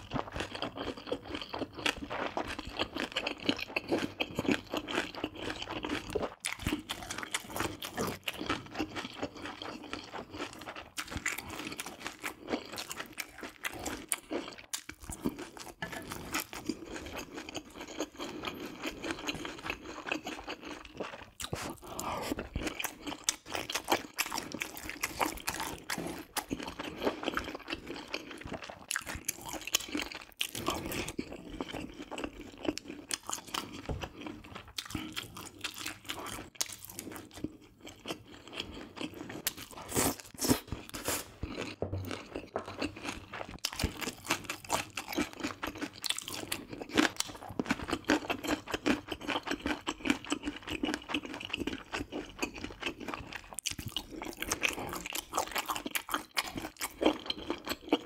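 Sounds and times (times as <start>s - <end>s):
wet chewing and mouth sounds: 0.0s - 58.0s.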